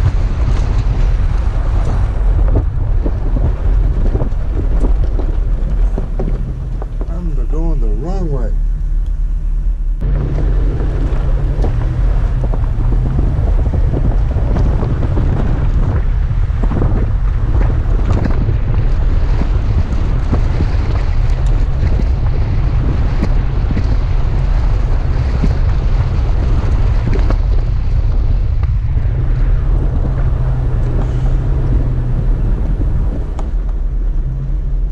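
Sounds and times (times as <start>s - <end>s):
vehicle rumble: 0.0s - 34.9s
wind buffeting microphone: 0.0s - 34.9s.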